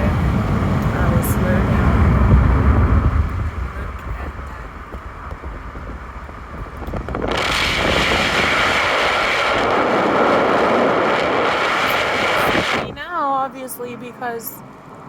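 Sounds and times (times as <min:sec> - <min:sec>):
rush of wind noise: 0:00.0 - 0:13.2
low road rumble: 0:00.0 - 0:15.0.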